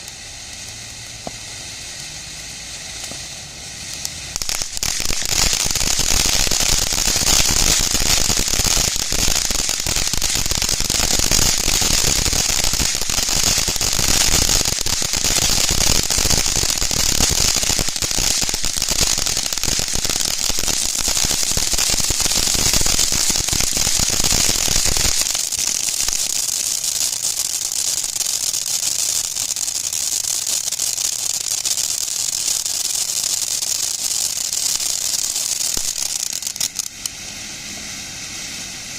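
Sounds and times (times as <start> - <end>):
firework crackling: 0.0 - 38.9
firework fountain hissing: 0.0 - 38.9.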